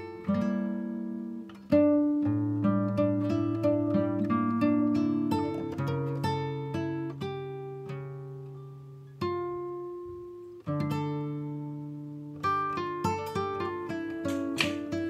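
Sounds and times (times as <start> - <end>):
acoustic guitar plucking notes: 0.0 - 15.0.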